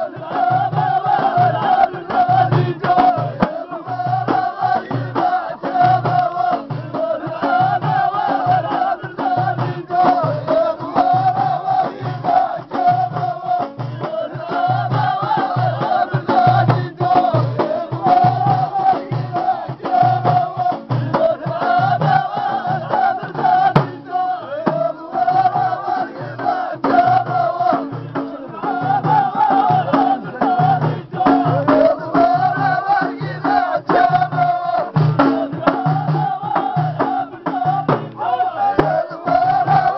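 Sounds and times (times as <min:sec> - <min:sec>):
frame drum beating: 0:00.0 - 0:39.9
men singing together: 0:00.0 - 0:39.9.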